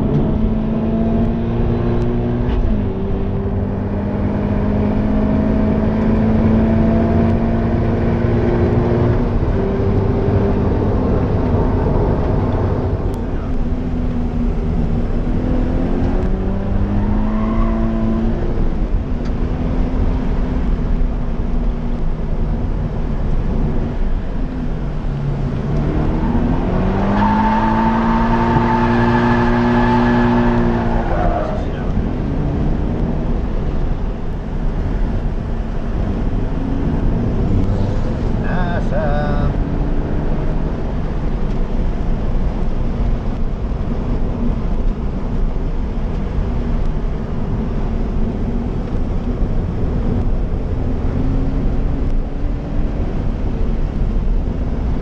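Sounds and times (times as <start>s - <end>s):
car engine driven hard: 0.0s - 55.0s.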